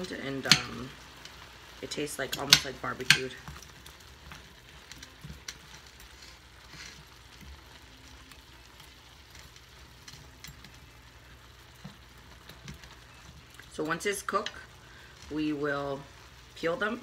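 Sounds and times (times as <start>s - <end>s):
shrimp sizzling in pan: 0.0s - 17.0s.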